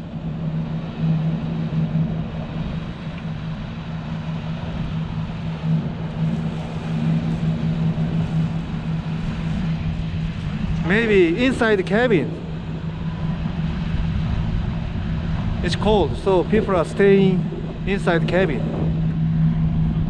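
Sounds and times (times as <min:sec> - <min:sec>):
boat engines droning: 0:00.0 - 0:20.0
wind and water hiss: 0:00.0 - 0:20.0.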